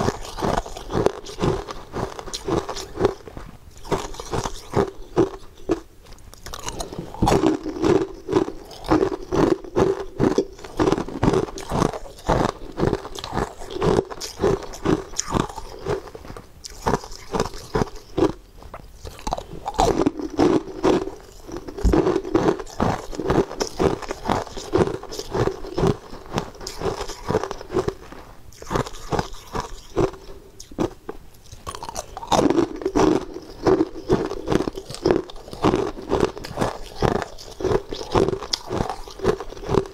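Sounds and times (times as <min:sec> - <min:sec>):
ice cubes crunching in teeth: 0:00.0 - 0:39.9.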